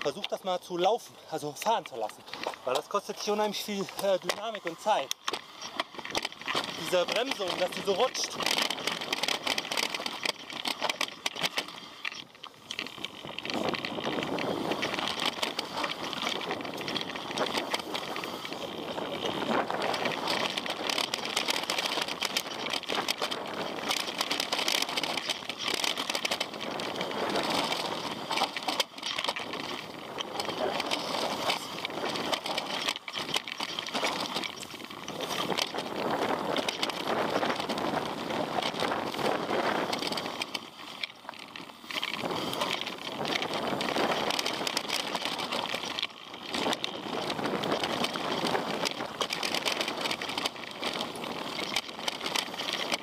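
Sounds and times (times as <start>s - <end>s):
bike rattling: 0.0s - 53.0s
bike tyres rolling over stones: 0.0s - 53.0s.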